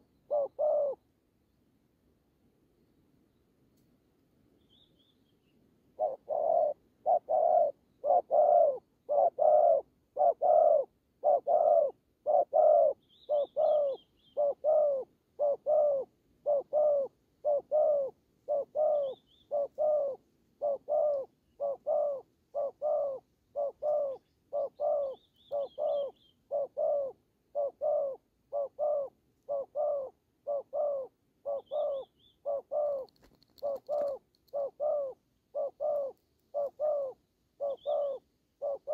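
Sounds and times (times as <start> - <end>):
doves cooing: 0.0 - 1.0, 6.0 - 38.9
small birds chirping: 4.6 - 38.9.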